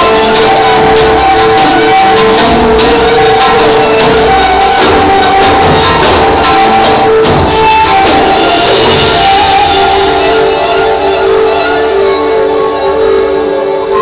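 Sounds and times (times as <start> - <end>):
belly-dance music with percussion: 0.0 - 14.0.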